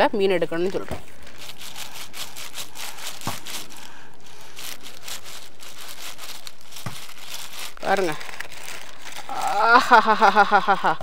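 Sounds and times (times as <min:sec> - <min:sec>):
plastic sheet crinkling: 0:00.6 - 0:10.0.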